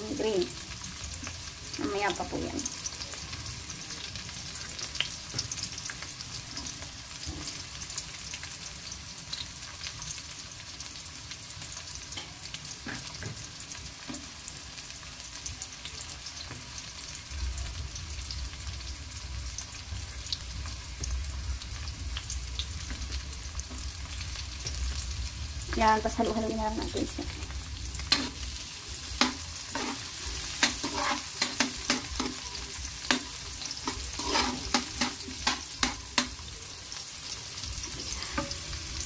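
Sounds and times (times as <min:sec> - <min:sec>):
food sizzling in hot oil: 0:00.0 - 0:39.0.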